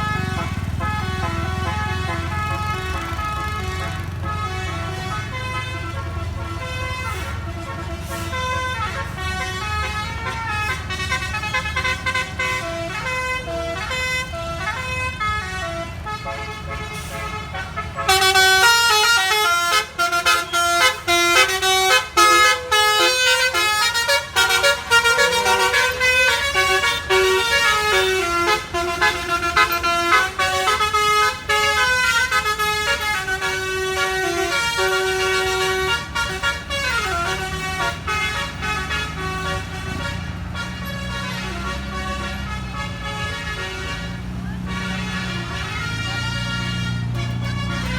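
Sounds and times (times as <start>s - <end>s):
bus air horn melody: 0.0s - 47.9s
low engine rumble: 0.0s - 47.9s.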